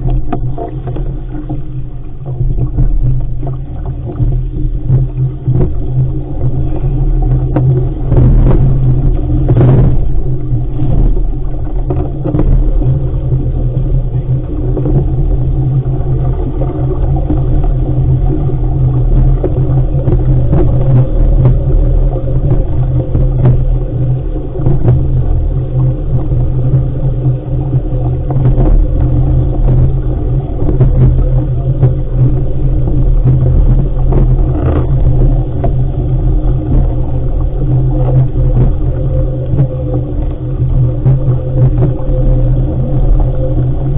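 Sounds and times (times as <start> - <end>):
wind rumble on microphone: 0.0 - 43.9.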